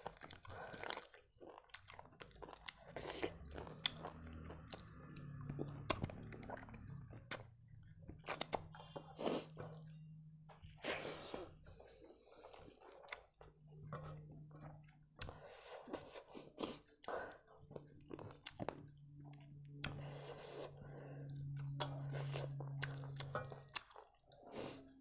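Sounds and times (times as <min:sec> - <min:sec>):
chewing and wet mouth sounds: 0:00.0 - 0:24.9.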